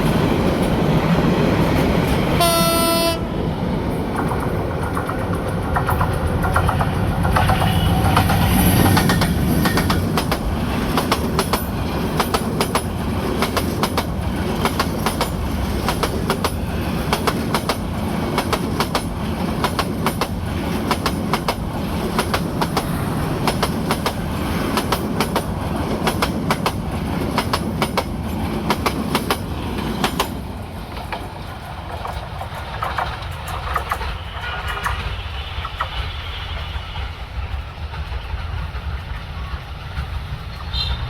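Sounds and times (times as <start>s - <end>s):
low train rumble: 0.0s - 41.0s
train wheels clacking over rail joints: 3.9s - 41.0s.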